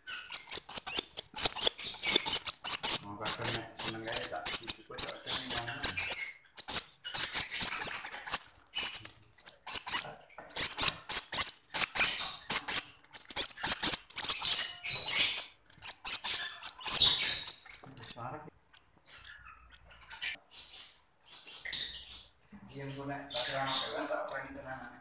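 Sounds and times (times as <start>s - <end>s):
chicks begging squeaks: 0.0s - 25.0s.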